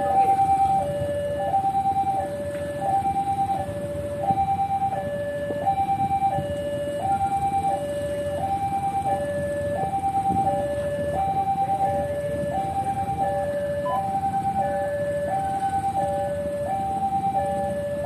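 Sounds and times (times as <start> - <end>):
level crossing two-tone alarm: 0.0 - 18.0
low street noise: 0.0 - 18.0.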